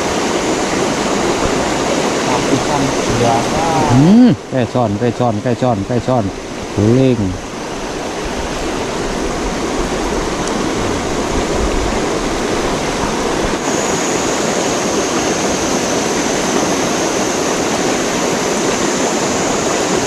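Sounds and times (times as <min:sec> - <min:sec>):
river rushing over stones: 0:00.0 - 0:20.0.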